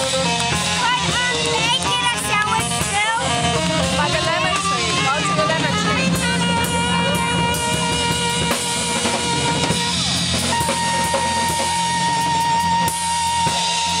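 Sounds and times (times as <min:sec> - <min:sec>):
bass line: 0:00.0 - 0:14.0
drum kit beat: 0:00.0 - 0:14.0
saxophone holding high note: 0:00.0 - 0:14.0.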